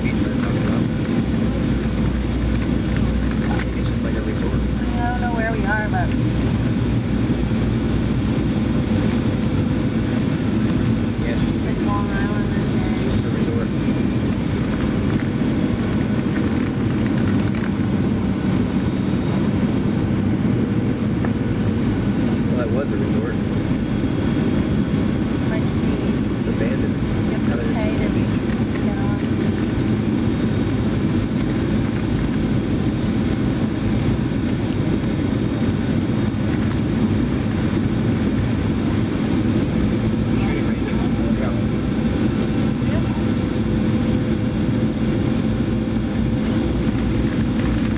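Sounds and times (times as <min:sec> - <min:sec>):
airplane cabin rumble: 0:00.0 - 0:47.9.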